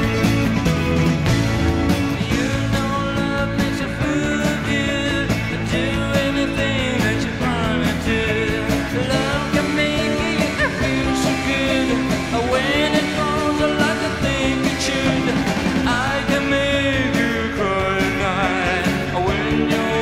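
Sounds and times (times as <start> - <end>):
band with guitar: 0.0 - 20.0
rock and roll record playing: 0.0 - 20.0
person singing: 2.0 - 20.0.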